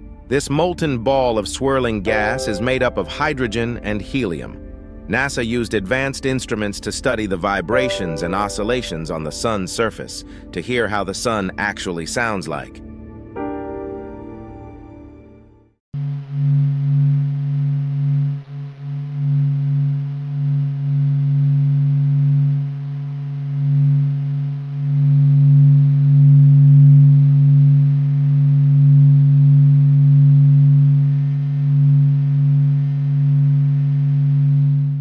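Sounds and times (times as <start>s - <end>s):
deep hum of held tones: 0.0s - 15.4s, 16.0s - 35.0s.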